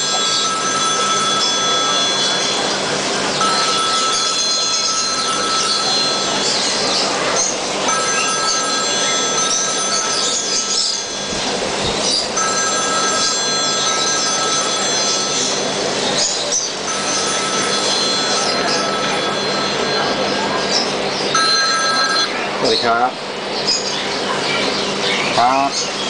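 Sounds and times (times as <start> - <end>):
high electronic ringing: 0.0 - 24.1.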